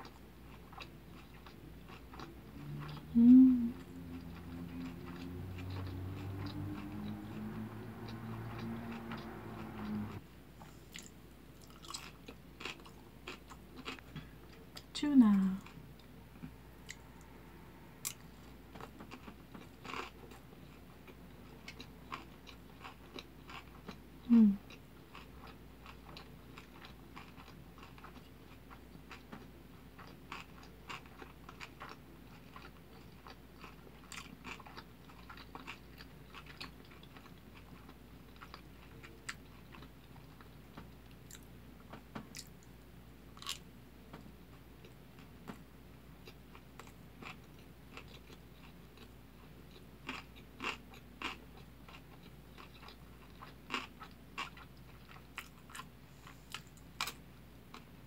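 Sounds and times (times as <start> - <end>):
person chewing food: 0.0 - 42.8, 43.4 - 45.6, 46.2 - 57.9.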